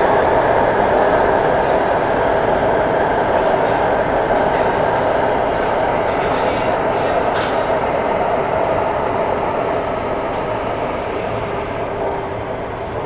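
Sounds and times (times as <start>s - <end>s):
train running in a tunnel: 0.0s - 13.0s.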